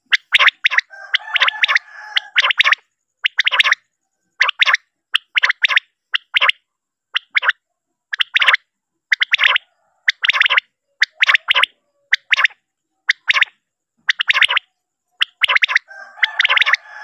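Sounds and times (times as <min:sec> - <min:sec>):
quail calling: 0:00.0 - 0:17.0.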